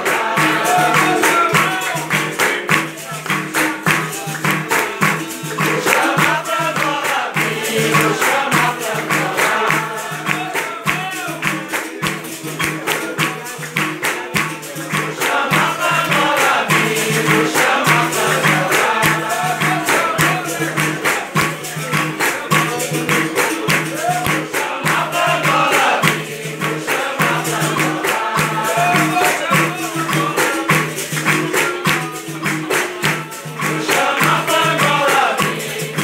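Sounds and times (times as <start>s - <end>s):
berimbaus playing: 0.0s - 36.0s
group singing in chorus: 0.0s - 36.0s
hand drum playing: 0.0s - 36.0s
people clapping: 0.0s - 36.0s
tambourine playing: 0.0s - 36.0s.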